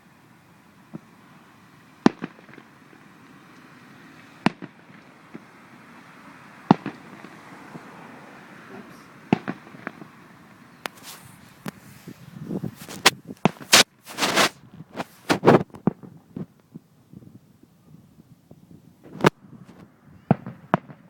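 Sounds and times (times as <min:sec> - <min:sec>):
fireworks bursting: 0:00.0 - 0:16.9, 0:19.0 - 0:21.0.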